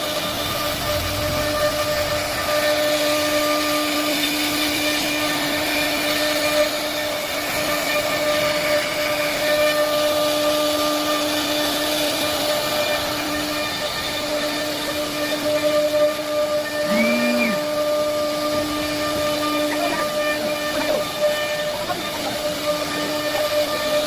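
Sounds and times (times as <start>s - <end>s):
router spindle whine: 0.0s - 24.0s.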